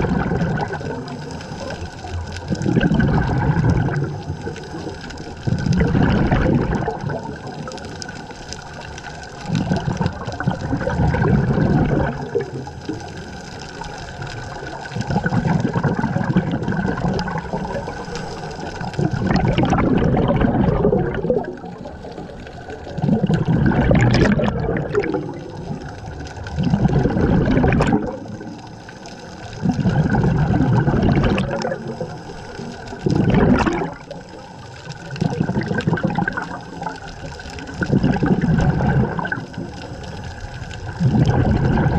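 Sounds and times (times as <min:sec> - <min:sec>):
regulator breathing bubbles: 0:00.0 - 0:07.8, 0:09.5 - 0:13.4, 0:14.9 - 0:28.8, 0:29.5 - 0:34.3, 0:35.0 - 0:40.2, 0:40.8 - 0:41.9.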